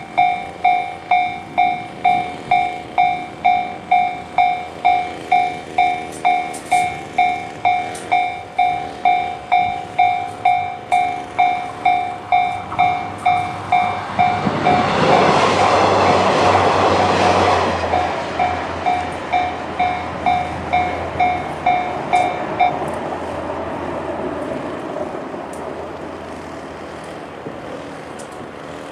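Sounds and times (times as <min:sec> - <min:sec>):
level crossing warning bell dinging: 0:00.0 - 0:23.4
diesel railcar train passing: 0:00.0 - 0:28.9.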